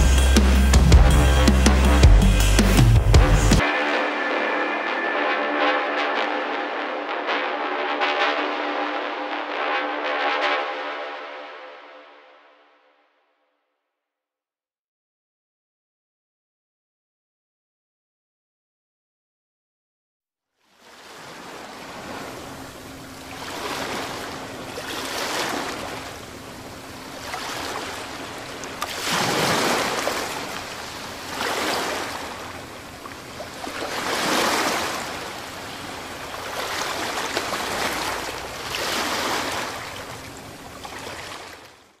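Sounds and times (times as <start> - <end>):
ocean waves washing: 0.0 - 12.6, 20.8 - 42.0.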